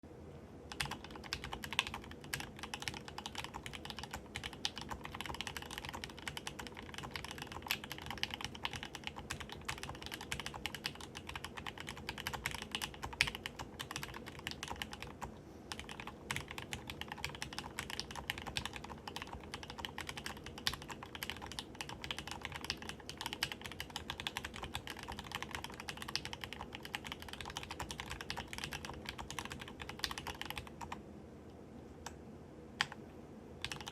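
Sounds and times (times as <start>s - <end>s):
mechanical keyboard typing: 0.7s - 31.0s, 33.6s - 33.9s.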